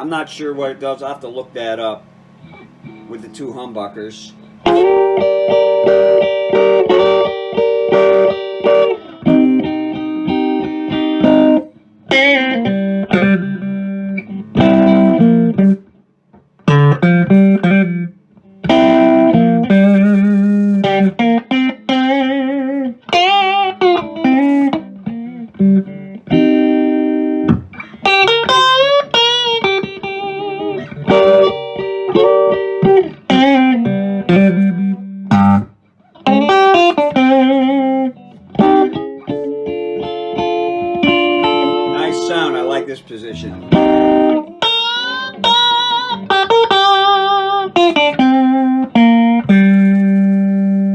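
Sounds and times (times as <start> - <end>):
electric guitar through tube amp: 1.2 - 50.9.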